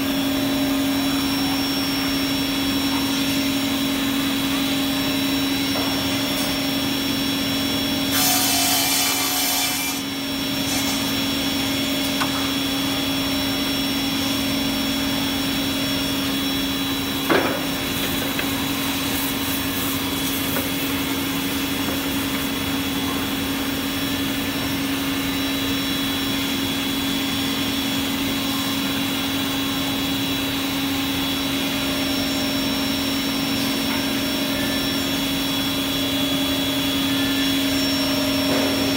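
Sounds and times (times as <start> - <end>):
saw motors humming and whining: 0.0 - 38.9.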